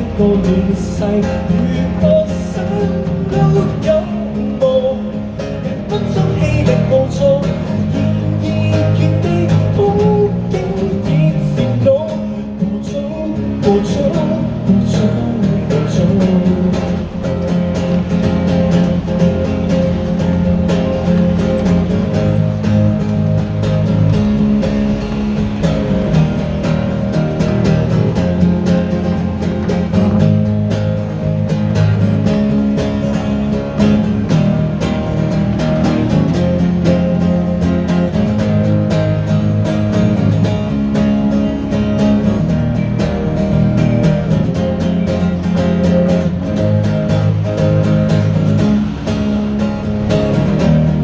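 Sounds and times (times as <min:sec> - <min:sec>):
acoustic guitars strumming: 0:00.0 - 0:51.0.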